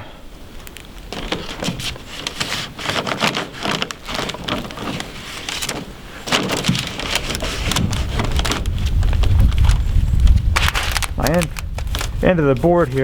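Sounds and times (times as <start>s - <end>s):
trim board rustling and scraping: 0.6s - 13.0s.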